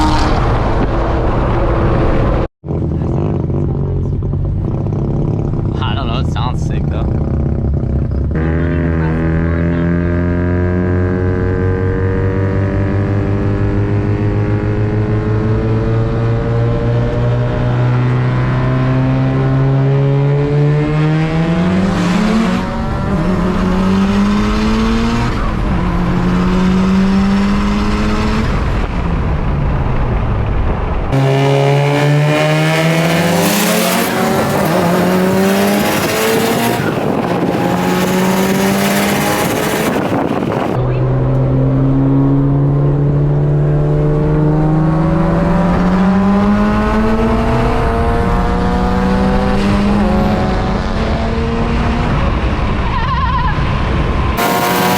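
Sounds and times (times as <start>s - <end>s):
car engine accelerating hard: 0.0s - 52.9s, 53.6s - 54.9s.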